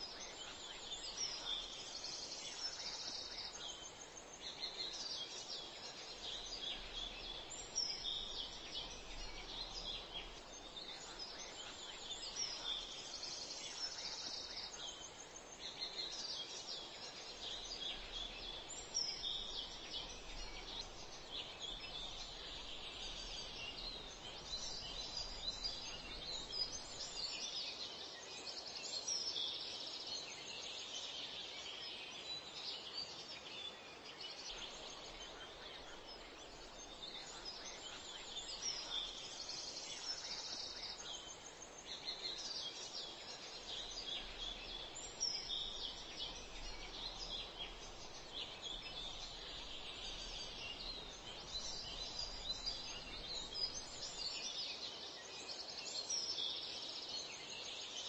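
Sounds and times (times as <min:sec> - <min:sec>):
birds chirping: 0:00.0 - 0:58.0
steady outdoor hiss: 0:00.0 - 0:58.0.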